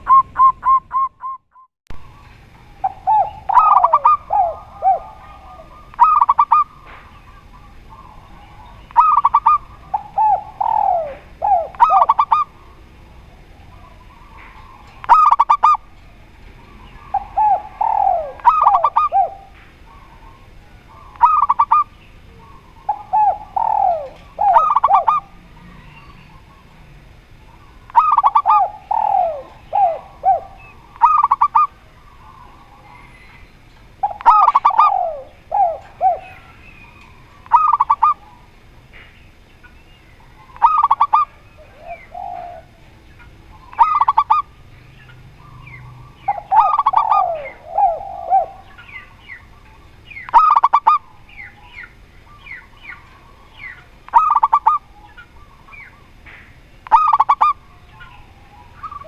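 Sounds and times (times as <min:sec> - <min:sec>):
high clipped dove coos: 0:00.0 - 0:59.0
lower falling dove coos: 0:00.0 - 0:59.0.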